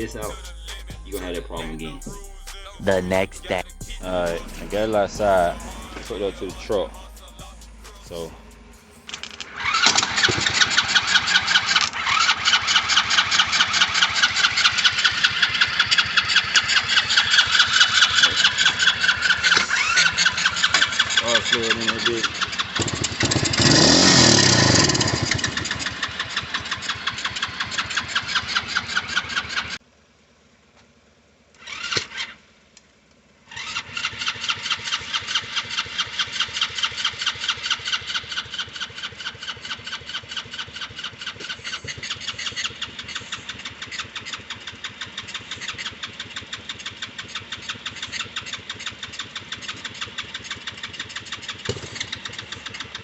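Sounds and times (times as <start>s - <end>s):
starter cranking engine: 3.8s - 29.8s, 33.5s - 53.0s.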